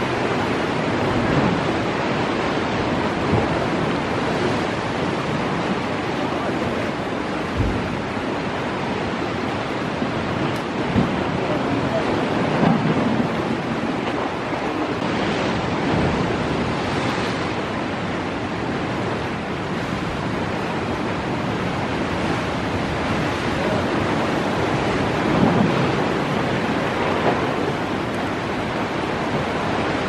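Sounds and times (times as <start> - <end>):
surf breaking on rocks: 0.0 - 30.0.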